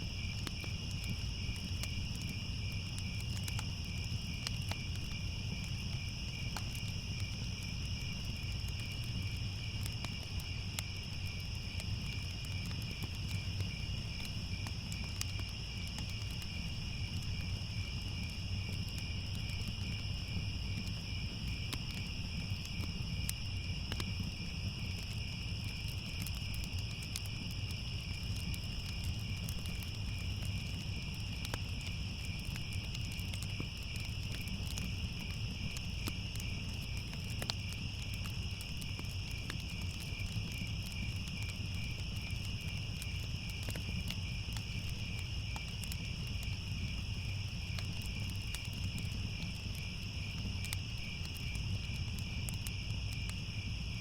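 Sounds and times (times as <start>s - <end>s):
crickets chirping: 0.0s - 54.0s
faint crackles: 0.1s - 53.8s.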